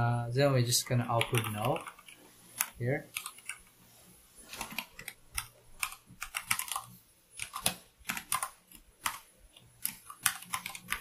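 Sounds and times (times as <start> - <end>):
computer keyboard typing: 0.9 - 3.7, 4.5 - 11.0.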